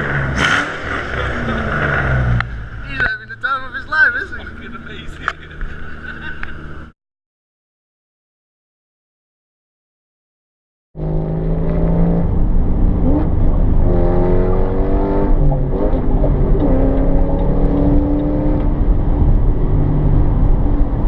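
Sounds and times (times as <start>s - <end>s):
car engine revving: 0.0s - 6.9s, 11.0s - 21.0s.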